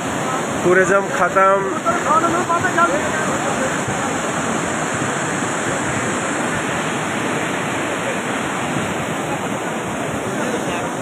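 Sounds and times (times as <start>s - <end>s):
muddy floodwater roaring: 0.0s - 11.0s.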